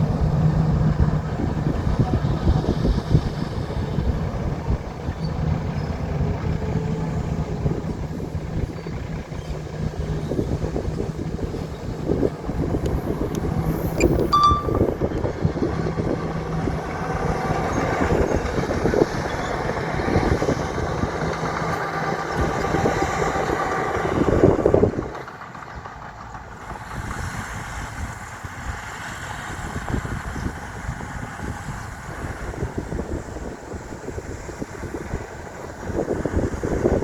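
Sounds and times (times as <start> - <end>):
diesel machinery engine drone: 0.0 - 37.0.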